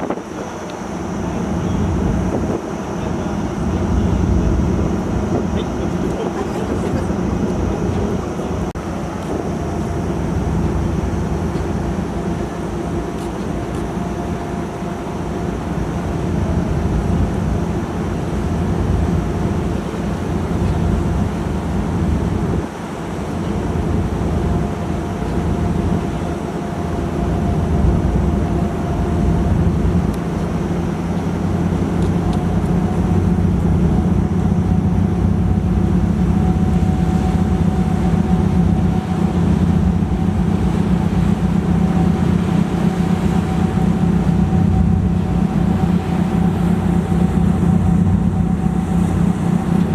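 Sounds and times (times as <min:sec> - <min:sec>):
faint high whine: 0:00.0 - 0:49.9
ferry engines droning: 0:00.0 - 0:49.9.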